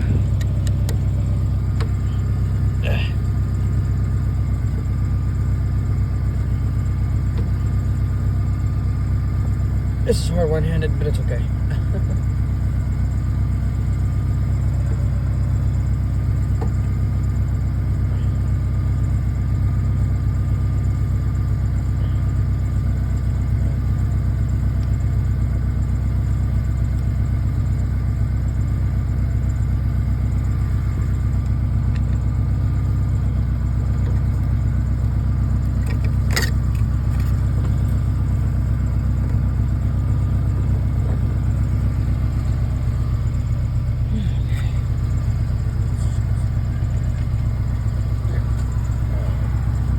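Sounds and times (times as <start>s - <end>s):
engine idling: 0.0s - 49.9s.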